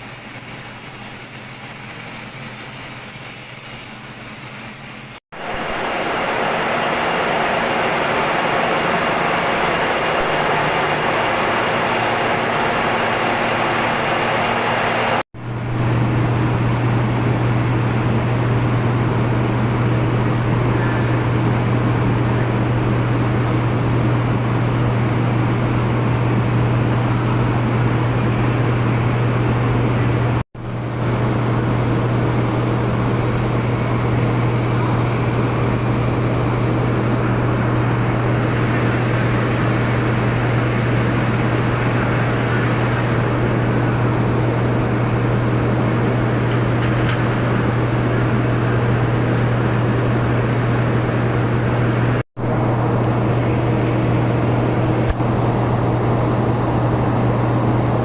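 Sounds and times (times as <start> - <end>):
industrial machinery humming: 0.0 - 58.0.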